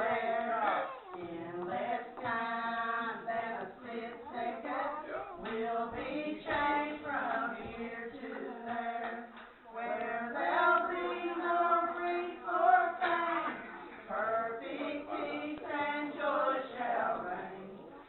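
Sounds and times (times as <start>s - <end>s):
women singing a hymn: 0.0s - 18.0s.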